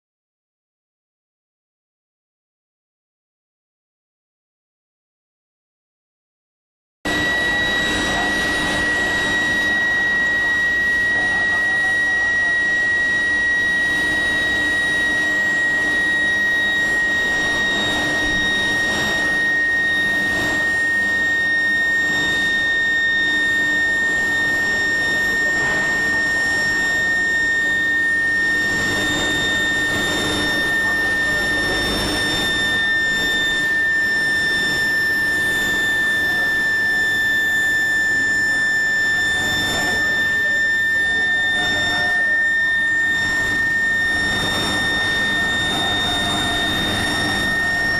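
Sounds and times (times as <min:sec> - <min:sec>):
high-pitched electrical whine: 0:07.1 - 0:47.9
machine noise: 0:07.1 - 0:47.9.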